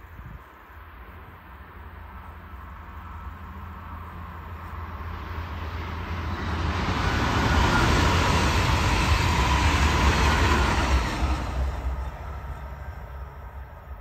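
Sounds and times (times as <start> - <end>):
train passing by: 0.0 - 14.0.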